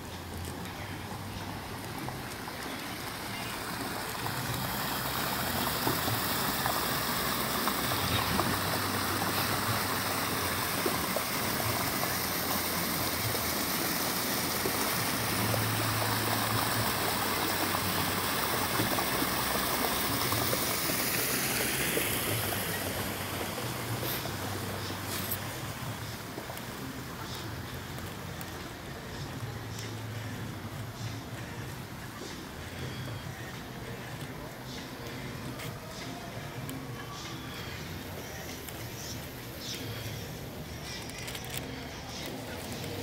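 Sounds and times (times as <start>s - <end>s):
running water rushing: 0.0s - 43.0s.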